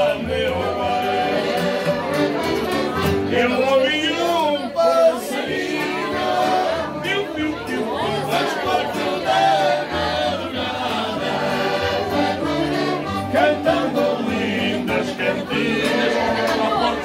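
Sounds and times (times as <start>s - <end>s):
several voices singing: 0.0s - 17.0s
strummed acoustic guitar: 0.0s - 17.0s.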